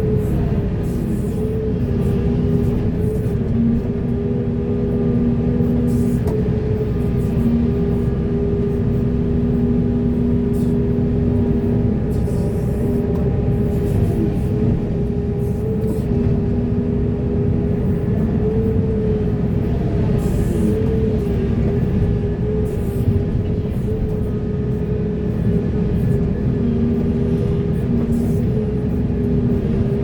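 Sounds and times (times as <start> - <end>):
excavator diesel engine drone: 0.0 - 30.0.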